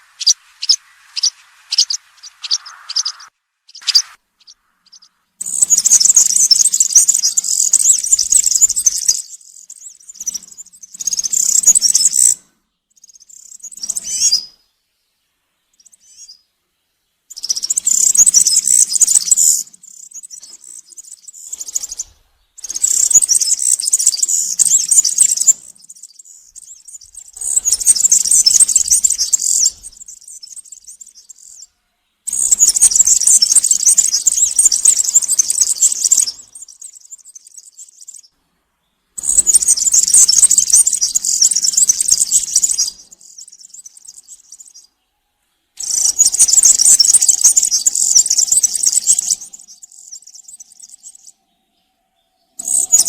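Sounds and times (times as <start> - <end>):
bird singing jingling song: 0.0 - 14.8, 15.7 - 16.4, 17.3 - 45.1, 45.8 - 53.0
quiet bird twittering: 0.0 - 53.0.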